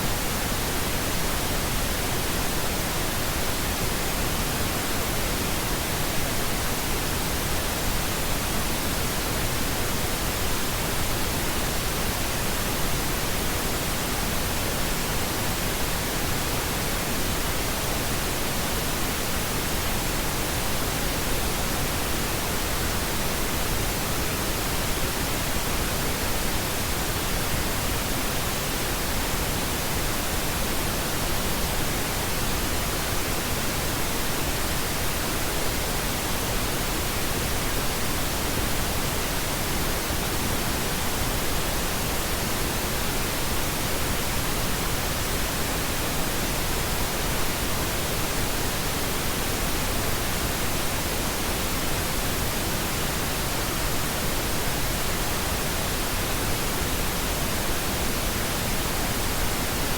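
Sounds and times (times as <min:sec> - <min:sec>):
steady pink noise hiss: 0:00.0 - 0:59.9.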